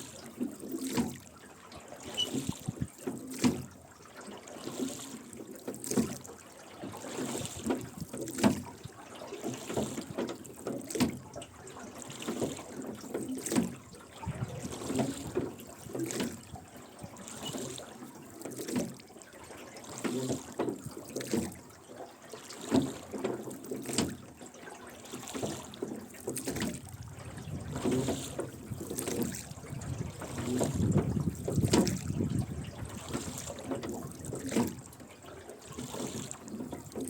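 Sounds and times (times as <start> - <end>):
oars splashing through water: 0.0 - 37.0.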